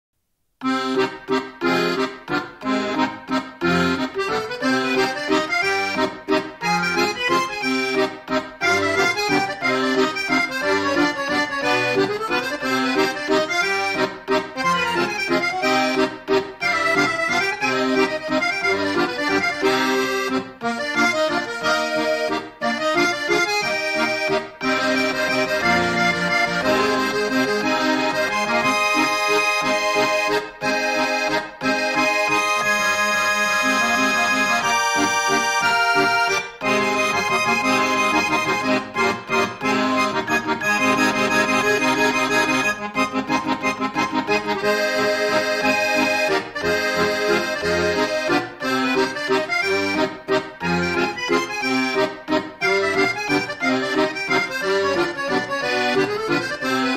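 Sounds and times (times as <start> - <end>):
busy instrumental music: 0.6 - 56.9.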